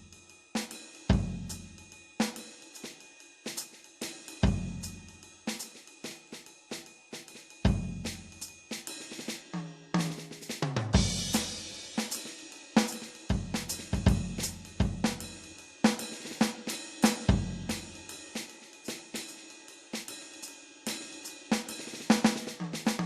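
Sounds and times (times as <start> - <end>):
electronic drum kit groove: 0.0 - 23.0.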